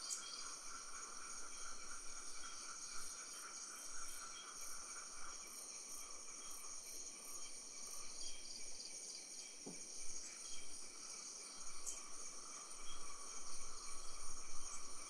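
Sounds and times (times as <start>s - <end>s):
crickets and insects trilling: 0.0s - 15.0s
high pulsing insect call: 0.0s - 15.0s.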